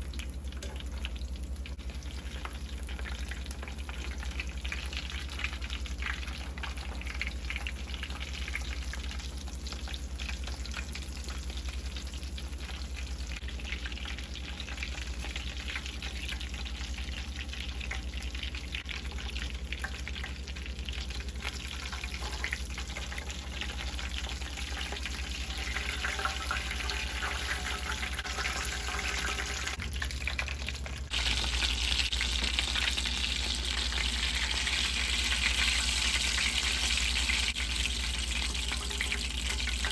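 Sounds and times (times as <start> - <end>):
cutlets sizzling in hot oil: 0.0 - 39.9.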